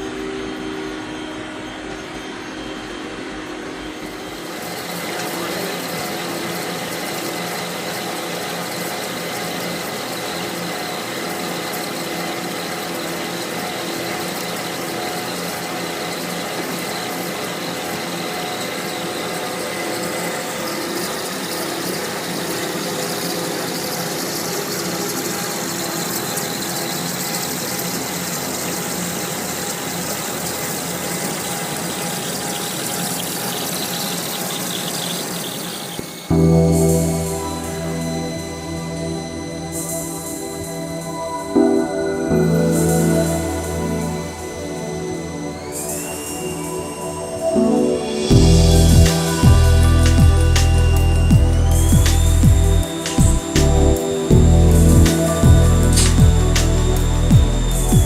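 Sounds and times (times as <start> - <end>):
machine running with hiss: 0.0 - 58.0
steady humming tones: 0.0 - 58.0.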